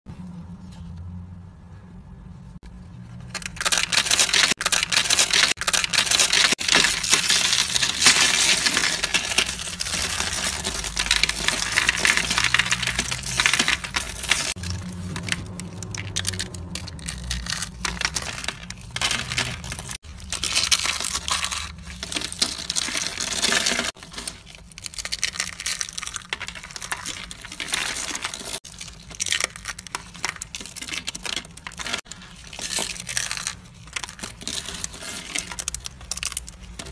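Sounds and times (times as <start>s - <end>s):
soap curls crushed by hand: 3.3s - 36.9s.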